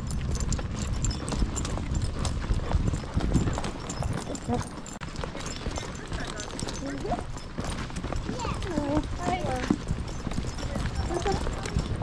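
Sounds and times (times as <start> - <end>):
harness clips clinking: 0.0 - 12.0.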